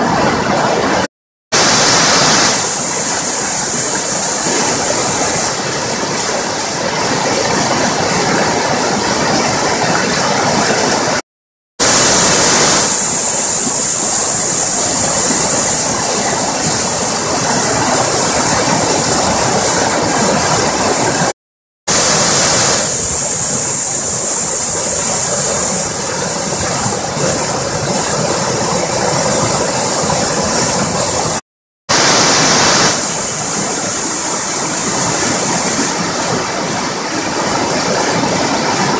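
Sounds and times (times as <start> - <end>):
river rushing white water: 0.0 - 11.2, 11.8 - 21.3, 21.9 - 38.9.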